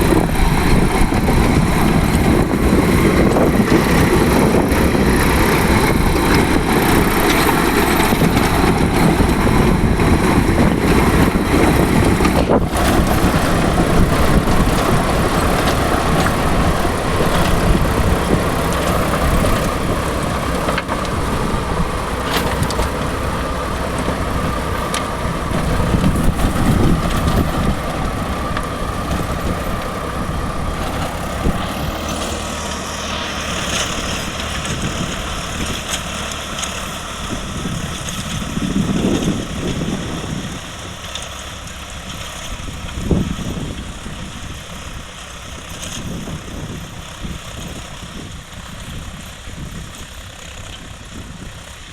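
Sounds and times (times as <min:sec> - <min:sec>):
tractor diesel engine droning: 0:00.0 - 0:51.9.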